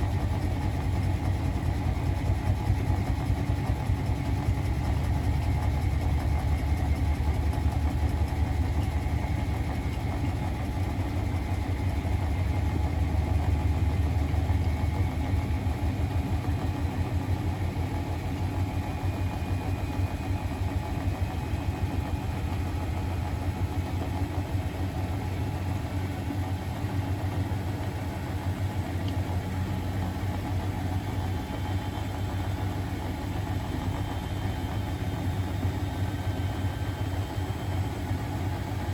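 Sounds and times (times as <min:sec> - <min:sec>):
faint motor whine: 0:00.0 - 0:38.9.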